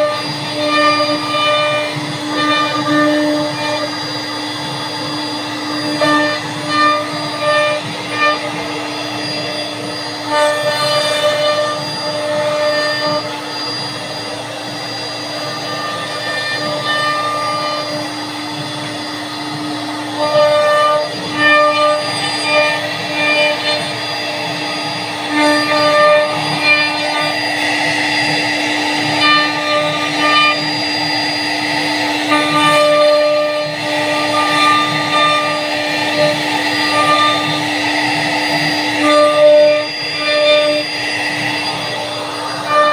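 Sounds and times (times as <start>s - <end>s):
cnc router spindle whining: 0.0s - 42.9s.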